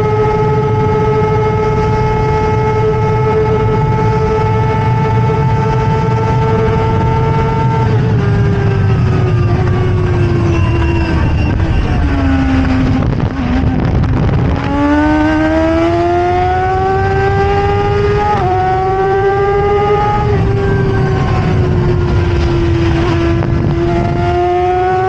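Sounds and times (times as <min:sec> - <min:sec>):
racing car engine revving: 0:00.0 - 0:25.0
wind rumble: 0:00.0 - 0:25.0.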